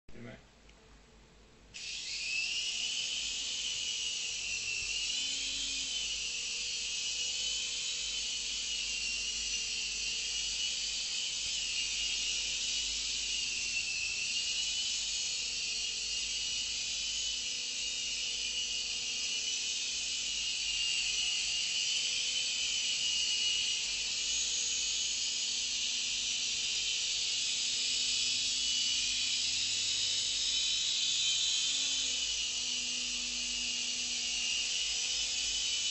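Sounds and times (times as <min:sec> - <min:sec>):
toy helicopter motor whine: 0:01.7 - 0:35.9
rotors whirring: 0:01.8 - 0:35.9.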